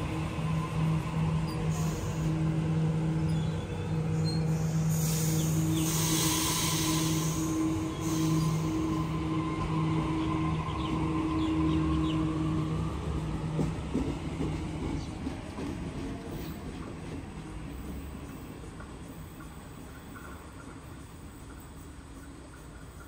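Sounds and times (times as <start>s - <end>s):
electric train hum: 0.0s - 23.0s.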